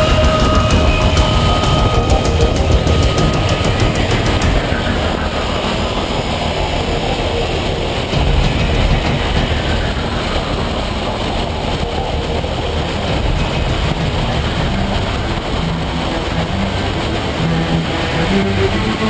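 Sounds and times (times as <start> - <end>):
motorcycle engine and tyre noise: 0.0 - 19.0
wind rush: 0.0 - 19.0.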